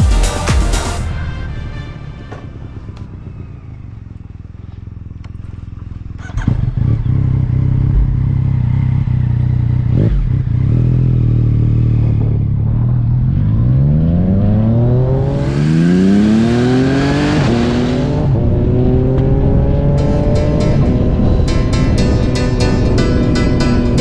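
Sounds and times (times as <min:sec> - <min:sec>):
motorcycle engine accelerating: 0:01.1 - 0:24.0.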